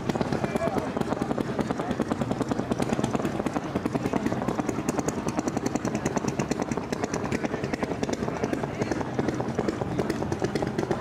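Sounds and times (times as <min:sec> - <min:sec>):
engine chugging steadily: 0:00.0 - 0:11.0.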